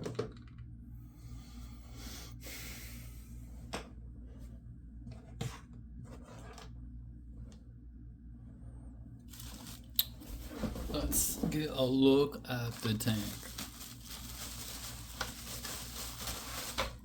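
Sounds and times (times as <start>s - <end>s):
steady low hum: 0.4s - 17.0s.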